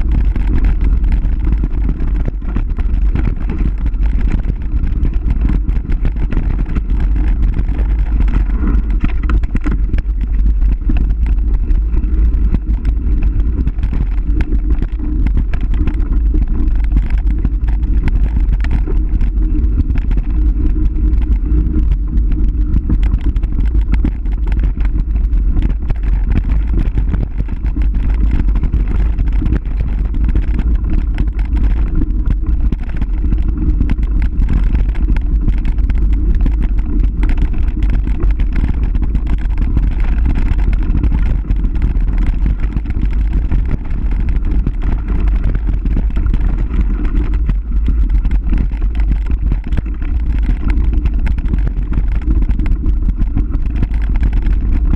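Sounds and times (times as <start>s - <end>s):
bike rattling and clattering: 0.0s - 54.9s
wind rumble on microphone: 0.0s - 54.9s.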